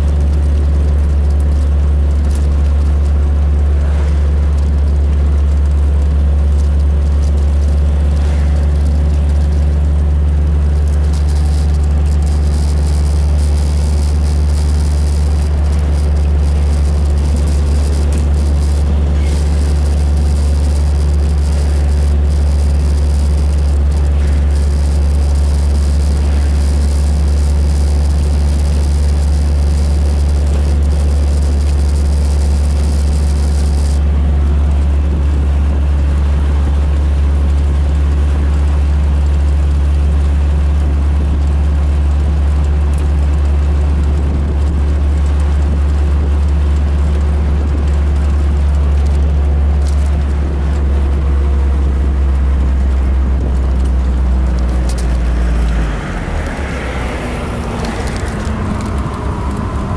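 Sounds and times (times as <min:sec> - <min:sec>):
road noise: 0:00.0 - 0:59.9
vehicle engine drone: 0:00.0 - 0:59.9.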